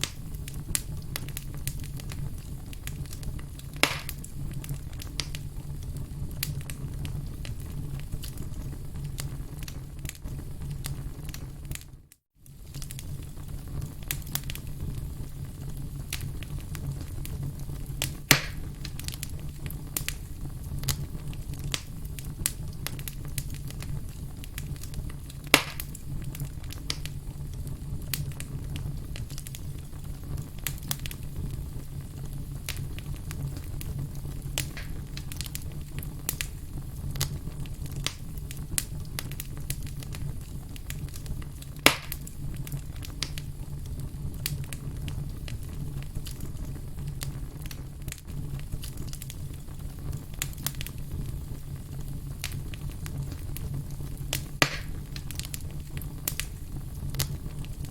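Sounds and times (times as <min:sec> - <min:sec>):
campfire crackling: 0:00.0 - 0:57.9
loud fire pops: 0:00.0 - 0:57.9
low rumble of fire: 0:00.0 - 0:57.9.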